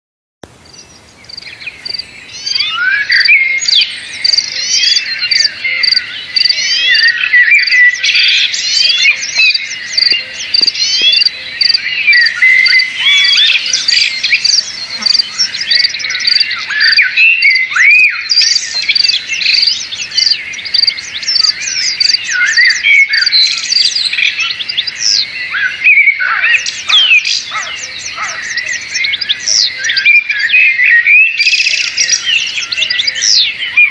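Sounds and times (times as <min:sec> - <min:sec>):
small birds chirping and trilling: 0:00.5 - 0:33.9.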